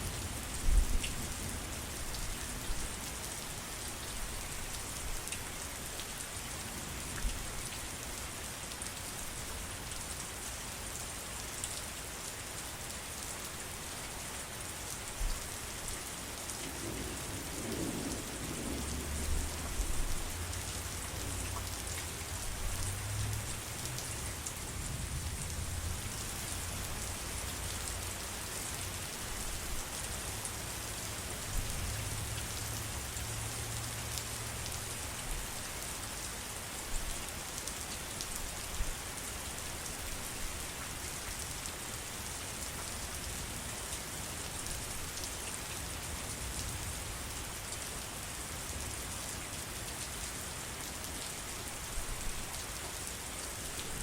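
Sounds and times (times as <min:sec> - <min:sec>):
dense rainfall: 0:00.0 - 0:54.0.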